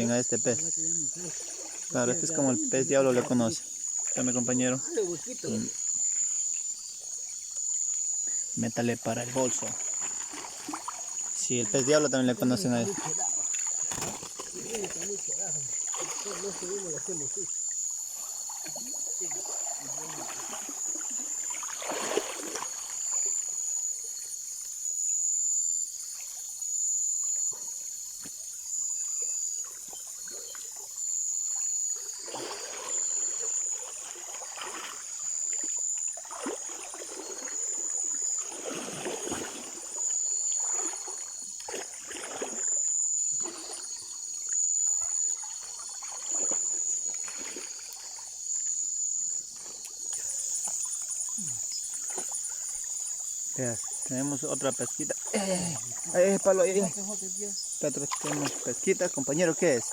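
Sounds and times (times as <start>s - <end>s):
water splashing and trickling: 0.0s - 24.7s, 27.2s - 59.9s
high-pitched insect chorus: 0.0s - 59.9s.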